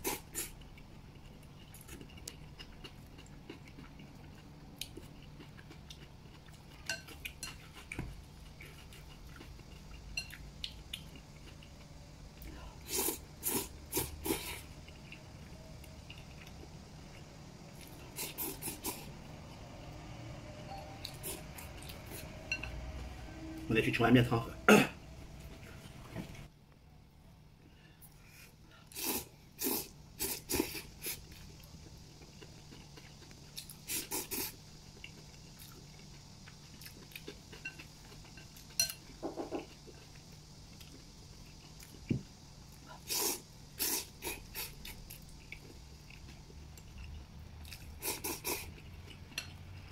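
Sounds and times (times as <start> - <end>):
quiet chewing: 0.0 - 19.1, 27.6 - 49.9.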